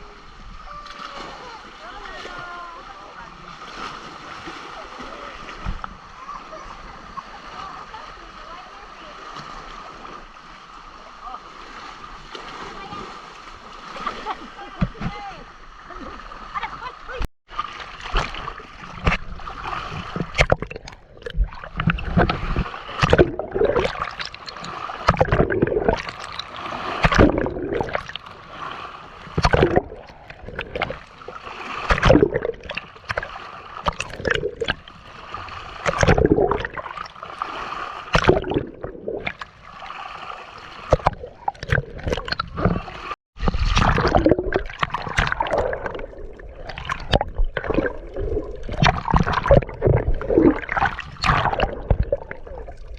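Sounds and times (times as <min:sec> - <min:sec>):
water splashing and gurgling: 0:00.0 - 0:52.9.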